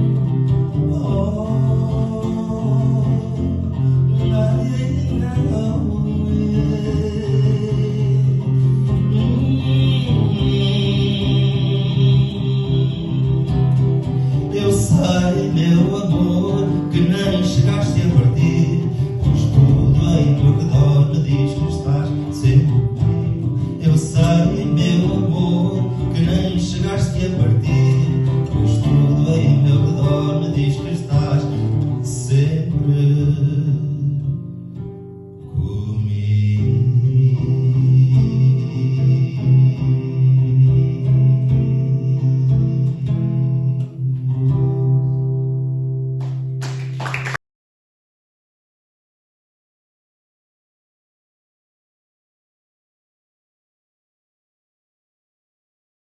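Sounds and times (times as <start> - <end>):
plucked guitar playing: 0.0 - 35.6, 36.8 - 46.8.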